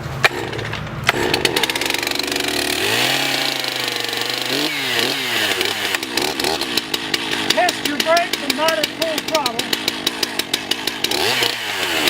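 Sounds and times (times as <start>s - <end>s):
chainsaw engine idling: 0.2s - 12.0s.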